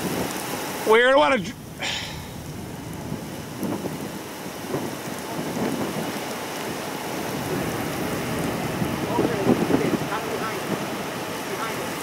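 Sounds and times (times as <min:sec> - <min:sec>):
heavy rain: 0:00.0 - 0:12.0
thunder rumbling: 0:00.0 - 0:12.0.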